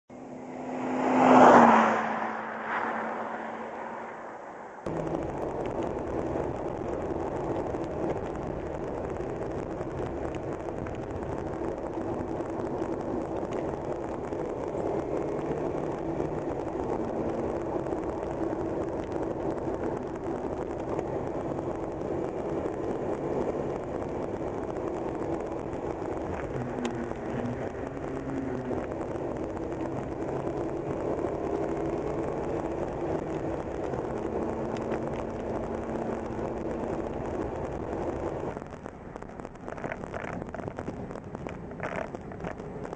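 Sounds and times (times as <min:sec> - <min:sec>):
car interior road and engine noise: 0:00.1 - 0:42.9.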